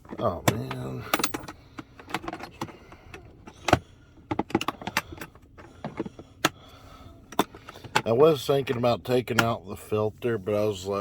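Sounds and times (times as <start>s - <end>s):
vacuum parts clicking and knocking: 0.0s - 6.7s, 7.3s - 9.6s.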